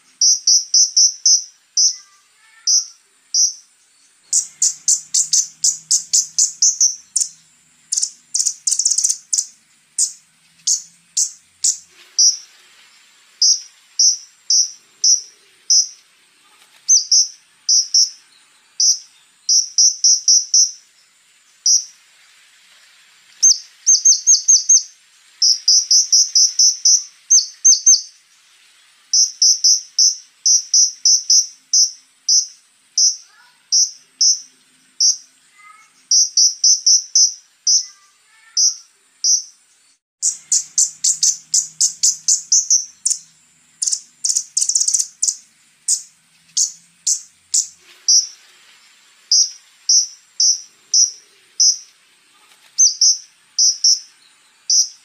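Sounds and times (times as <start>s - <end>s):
songbird singing sharp chips: 0.0s - 22.0s, 23.3s - 28.3s, 29.0s - 55.0s
faint high insect-like whine: 0.0s - 55.0s.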